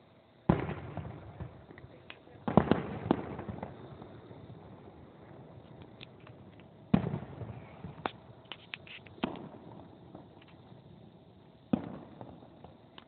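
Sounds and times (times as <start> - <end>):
firework crackling: 0.0 - 13.0
firework sharp crack: 0.0 - 13.0
firework shell booms: 0.5 - 8.3, 9.1 - 10.6, 11.7 - 13.0.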